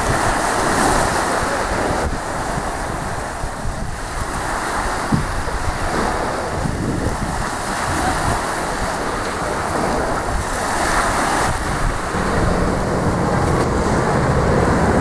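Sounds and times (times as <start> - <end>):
small waves washing on beach: 0.0 - 15.0
wind buffeting microphone: 0.0 - 15.0.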